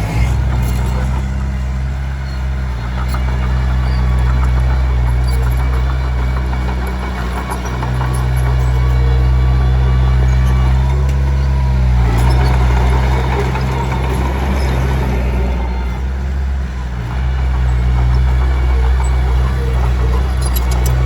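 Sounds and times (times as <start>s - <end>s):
rough gritty scraping noise: 0.0s - 16.1s, 17.1s - 21.0s
bulldozer diesel engine running: 0.0s - 21.0s.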